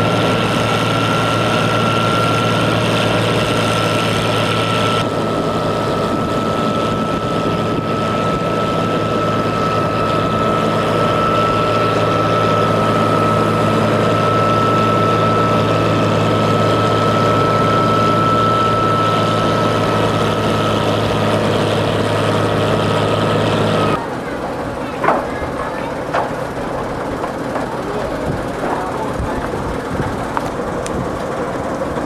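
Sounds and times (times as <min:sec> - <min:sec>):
boat engine humming: 0:00.0 - 0:32.0
thin steady whine: 0:00.0 - 0:32.0
wind: 0:00.0 - 0:32.0.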